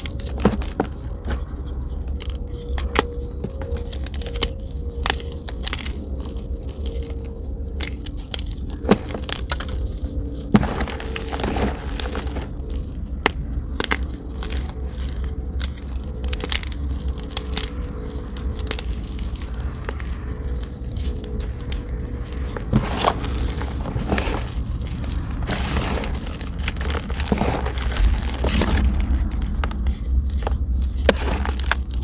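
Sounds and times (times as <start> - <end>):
chalk crunching and crackling: 0.0 - 32.0
steady low rumble: 0.0 - 32.0.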